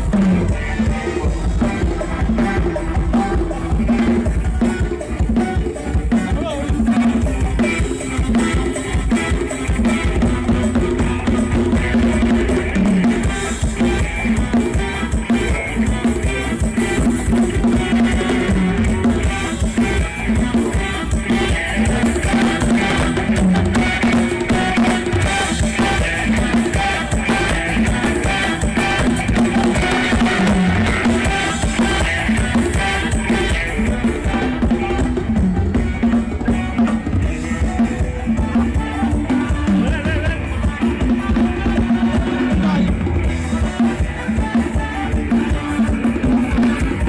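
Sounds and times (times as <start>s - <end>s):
loud music with drums and bass: 0.0s - 47.0s.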